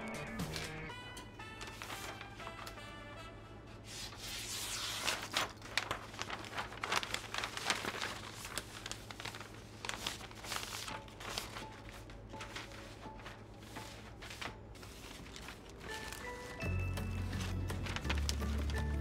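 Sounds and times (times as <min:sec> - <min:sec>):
wrapping paper crinkling: 0:00.4 - 0:02.8, 0:04.0 - 0:19.0.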